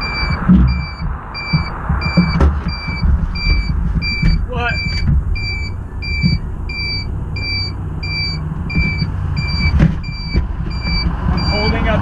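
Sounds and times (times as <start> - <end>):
high electronic beeps: 0.0 - 12.0
road and wind rumble: 0.0 - 12.0.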